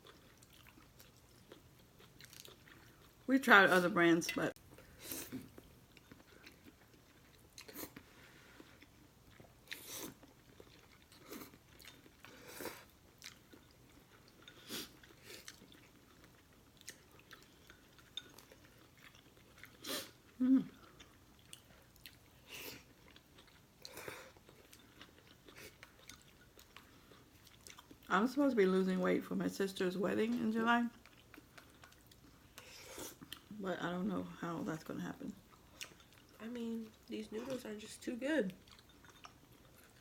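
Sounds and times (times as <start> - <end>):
chewing noodles: 0.0 - 3.3, 4.8 - 28.2, 30.8 - 33.6, 35.3 - 40.0.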